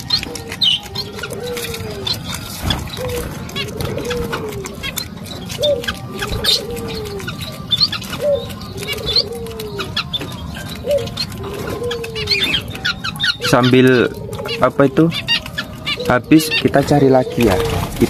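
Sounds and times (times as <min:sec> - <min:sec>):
otter chewing food: 0:00.0 - 0:18.0.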